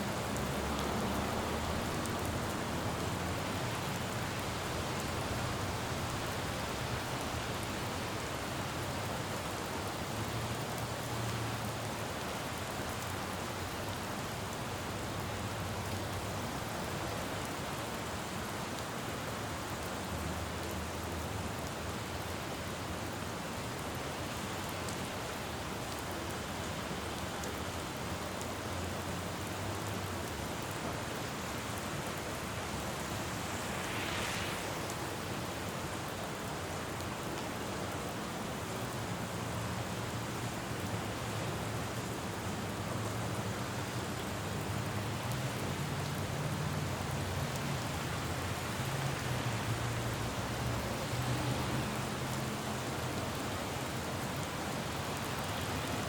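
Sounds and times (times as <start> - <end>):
distant traffic hum: 0.0 - 18.6, 23.4 - 56.0
rain falling on a road: 0.0 - 56.0.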